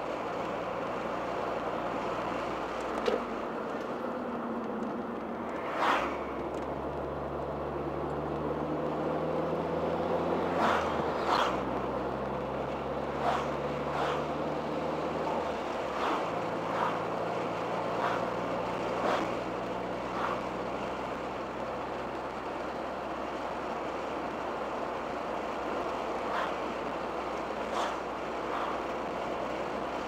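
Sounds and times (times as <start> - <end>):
car engine drone from inside cabin: 0.0 - 30.0
road and wind noise: 0.0 - 30.0.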